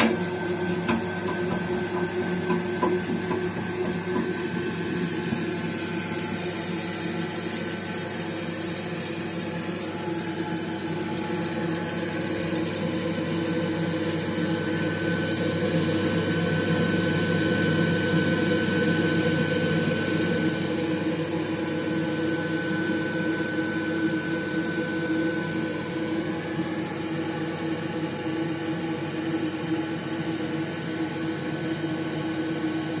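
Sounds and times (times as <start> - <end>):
gas boiler humming: 0.0 - 33.0.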